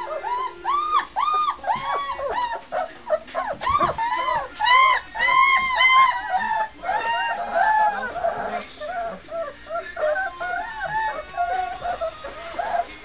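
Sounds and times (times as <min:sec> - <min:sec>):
puppies whining and squealing: 0:00.0 - 0:13.0.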